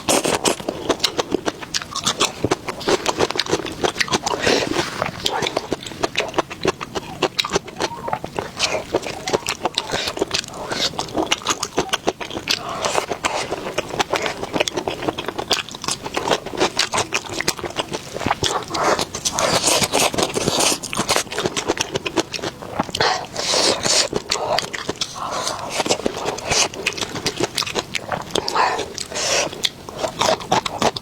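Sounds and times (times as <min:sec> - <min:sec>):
person chewing food: 0:00.0 - 0:31.0
wet mouth clicks: 0:00.0 - 0:31.0.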